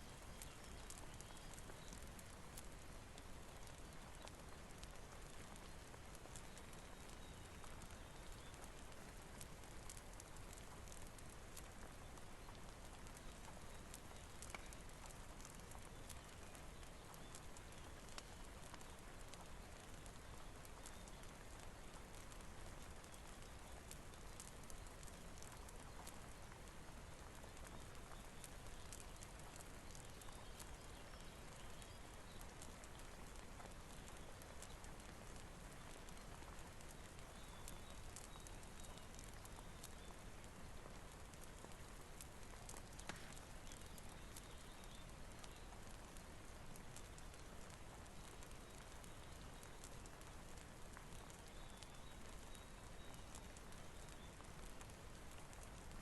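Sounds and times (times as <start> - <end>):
rain hiss: 0.0 - 56.0
wood fire crackling: 0.0 - 56.0.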